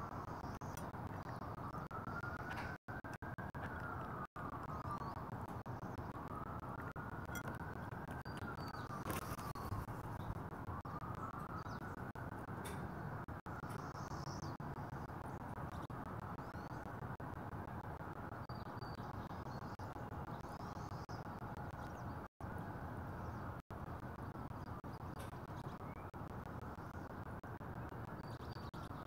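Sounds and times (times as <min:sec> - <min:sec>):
distant small birds chirping: 0:00.0 - 0:29.0
outdoor background rumble: 0:00.0 - 0:29.0.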